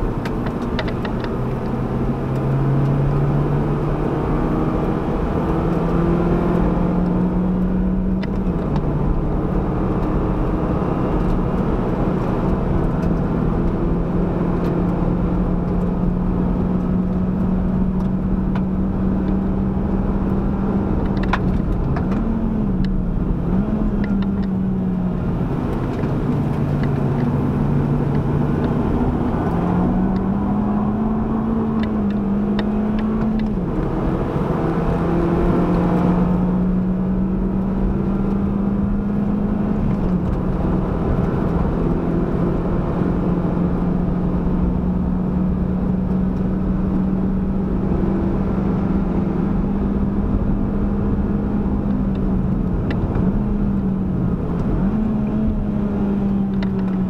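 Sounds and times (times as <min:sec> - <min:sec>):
car engine revving: 0:00.0 - 0:57.0
road and wind noise: 0:00.0 - 0:57.0.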